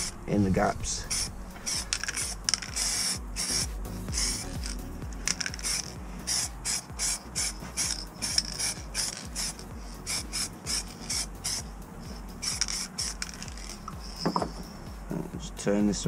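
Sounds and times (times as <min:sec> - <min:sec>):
spray paint can hissing: 0:01.0 - 0:14.8.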